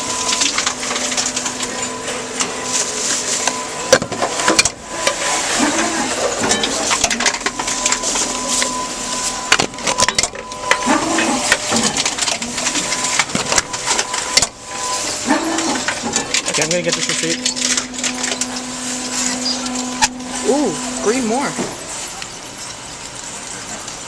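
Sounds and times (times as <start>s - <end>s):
machine motor hum: 0.0s - 23.2s
containers clattering and crushing: 0.0s - 24.0s.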